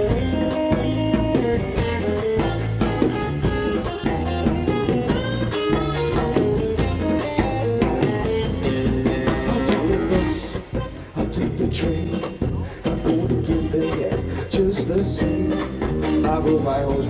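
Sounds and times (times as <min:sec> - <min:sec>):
drums keeping a steady beat: 0:00.0 - 0:17.0
electric guitar: 0:00.0 - 0:17.0.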